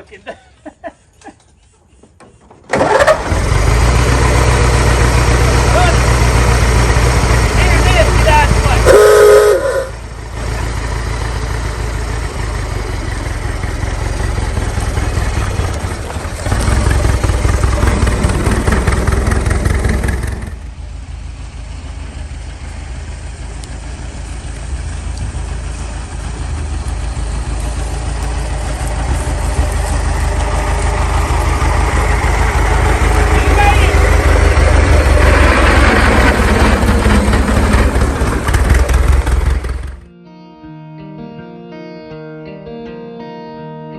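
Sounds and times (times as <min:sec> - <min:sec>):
old truck engine running: 0:01.2 - 0:40.1.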